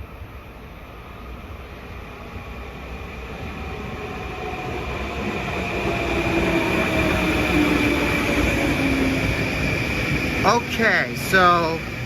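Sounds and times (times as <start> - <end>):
electric train pulling in: 0.0 - 12.0.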